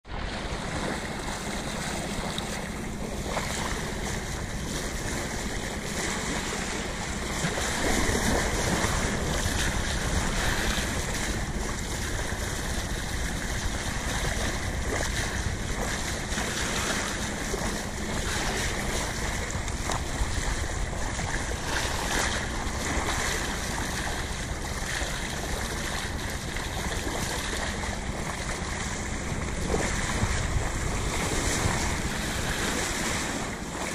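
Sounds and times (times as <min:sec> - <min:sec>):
water splashing along hull: 0:00.0 - 0:33.9
wind buffeting microphone: 0:00.1 - 0:33.9.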